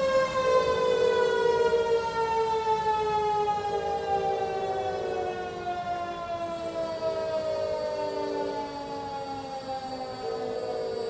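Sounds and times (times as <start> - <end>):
outdoor warning sirens: 0.0 - 11.0
siren winding down: 0.0 - 11.0.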